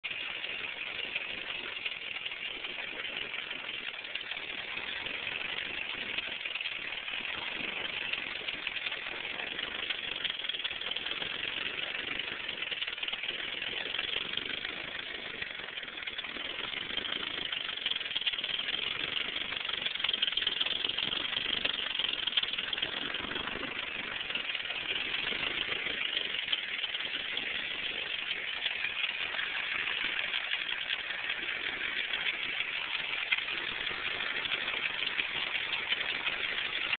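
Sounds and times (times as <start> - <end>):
car engine idling: 0.0 - 36.9
steady ticking: 0.0 - 36.9.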